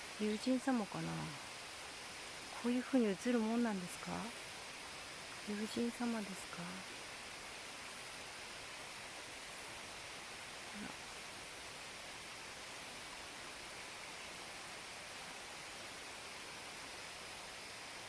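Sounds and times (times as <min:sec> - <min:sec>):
flowing water hiss: 0:00.0 - 0:18.0.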